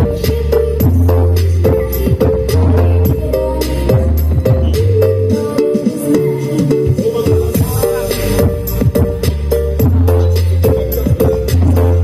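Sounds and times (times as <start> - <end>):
loud dance music with heavy bass: 0.0 - 12.0.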